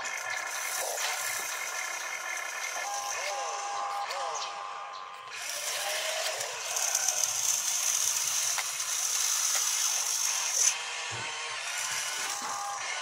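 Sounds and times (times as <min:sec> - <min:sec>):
electric gear motors grinding: 0:00.0 - 0:13.0.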